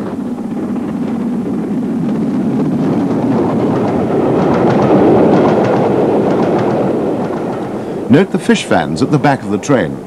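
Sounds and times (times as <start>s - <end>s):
train wheels on rails: 0.0s - 10.0s
wheels clicking over rail joints: 0.0s - 10.0s.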